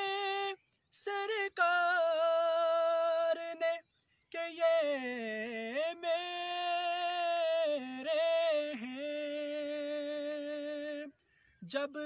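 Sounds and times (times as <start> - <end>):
man singing a cappella: 0.0 - 12.0.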